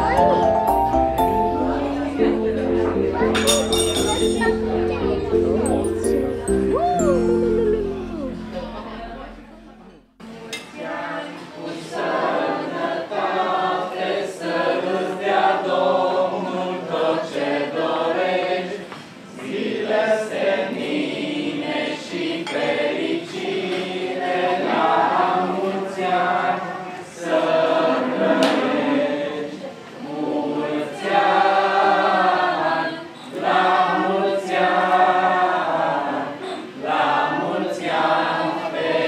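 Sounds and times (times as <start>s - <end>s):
group singing: 1.4s - 4.7s, 10.7s - 39.0s.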